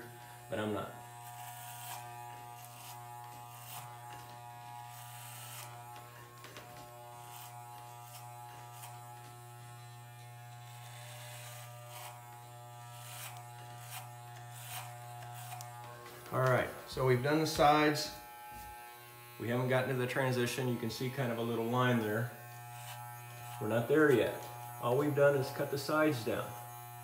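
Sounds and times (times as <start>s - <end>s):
blades crackling cutting hair: 0.0s - 27.0s
electric hair clippers buzzing: 0.0s - 27.0s.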